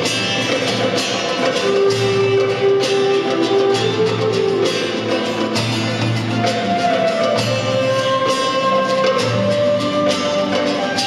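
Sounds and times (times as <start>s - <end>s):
folk-rock band playing live: 0.0s - 11.0s
strummed guitar: 0.0s - 11.0s.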